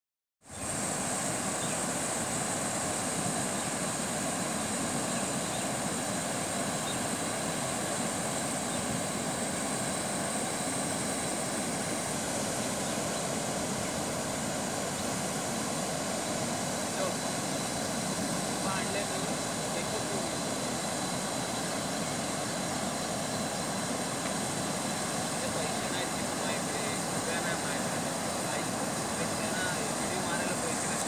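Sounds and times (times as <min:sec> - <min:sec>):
water rushing over rapids: 0:00.5 - 0:31.0.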